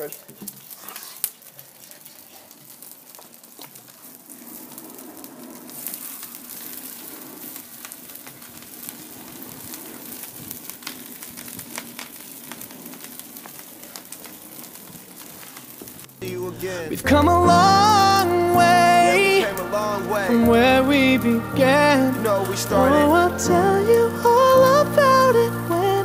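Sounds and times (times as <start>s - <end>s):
fire burning with crackles: 0.0s - 26.0s.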